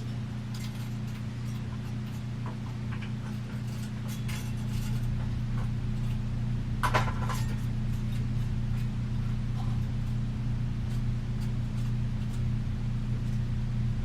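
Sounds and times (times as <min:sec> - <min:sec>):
clinks of fan parts handled: 0:00.0 - 0:12.5
steady low hum: 0:00.0 - 0:14.0.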